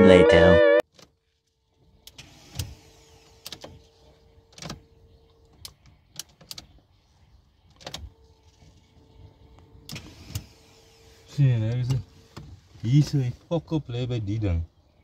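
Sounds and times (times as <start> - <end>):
faint steady whine: 0.1 - 15.0.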